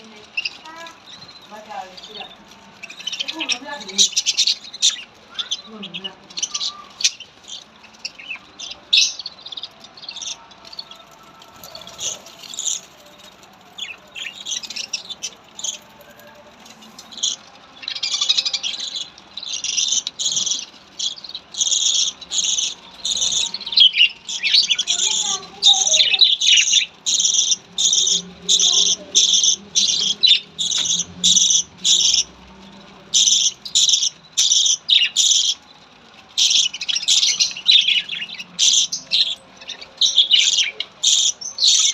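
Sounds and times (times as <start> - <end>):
budgerigars chirping: 0.1 - 13.0, 17.0 - 35.6, 36.4 - 41.9.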